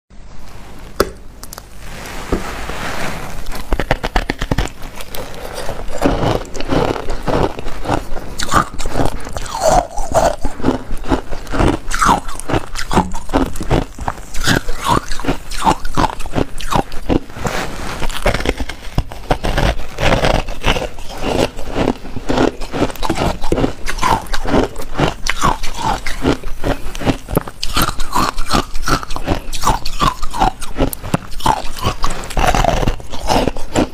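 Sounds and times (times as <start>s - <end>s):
ice crunching and cracking: 3.3s - 33.9s
chewing ice: 3.4s - 17.3s, 18.0s - 33.9s.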